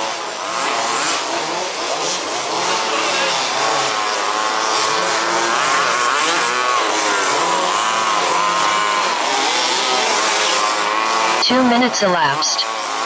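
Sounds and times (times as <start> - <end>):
model buggy engines revving: 0.0 - 13.0.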